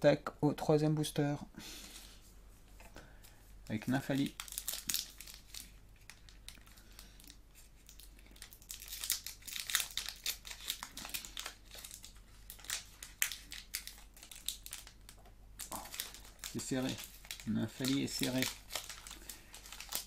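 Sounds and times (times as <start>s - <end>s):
foil pack crinkling and tearing: 3.8s - 20.0s.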